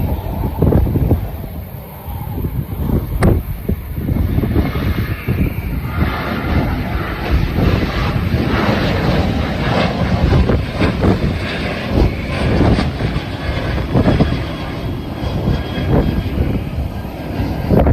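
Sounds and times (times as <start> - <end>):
jet airliner taking off: 0.0 - 17.9
wind buffeting microphone: 0.0 - 17.9.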